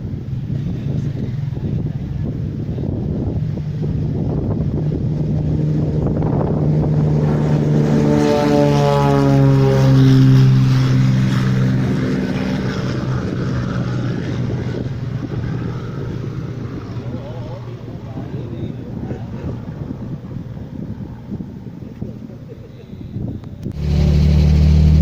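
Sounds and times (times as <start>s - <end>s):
propeller airplane passing by: 0.0s - 25.0s.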